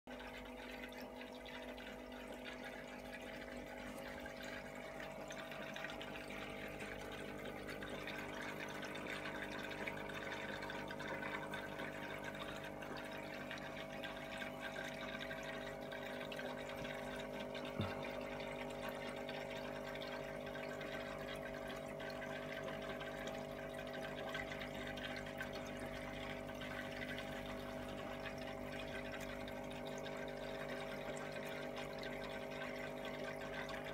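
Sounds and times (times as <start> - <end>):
filter motor hum: 0.1 - 33.9
water trickling and splashing: 0.1 - 33.9.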